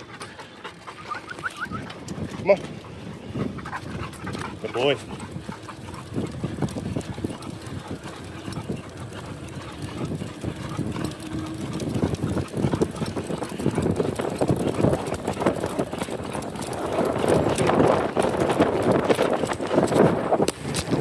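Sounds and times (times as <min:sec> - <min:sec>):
rhythmic clip-clop of footfalls: 0:00.0 - 0:21.0
rough ride clatter: 0:00.0 - 0:21.0.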